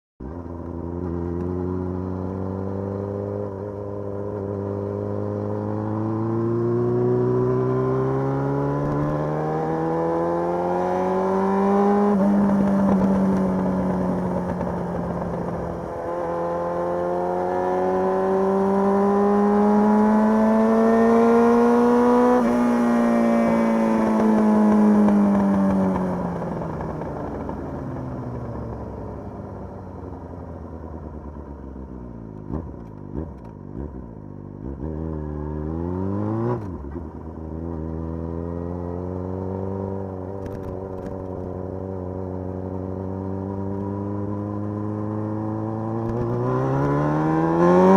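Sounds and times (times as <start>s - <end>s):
motorcycle engine revving: 0.2s - 31.4s, 32.3s - 47.9s.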